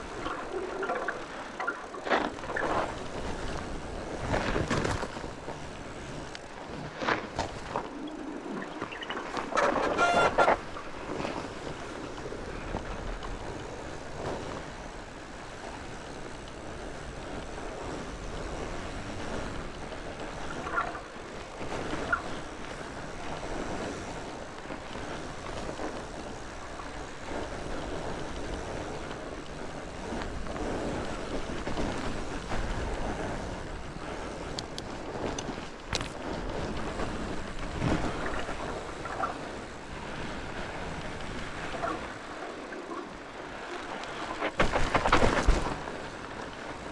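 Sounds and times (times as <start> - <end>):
bike knocking and rattling: 0.0 - 41.9, 43.8 - 46.9
bike tyres rolling on dirt: 0.0 - 46.9
wind on microphone: 0.0 - 46.9.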